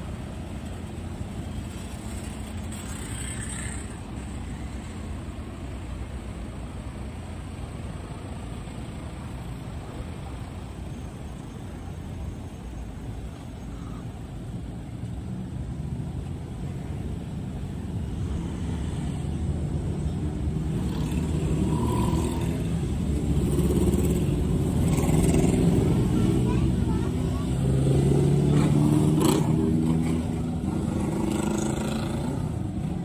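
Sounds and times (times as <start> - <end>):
cars passing: 0.0 - 33.0.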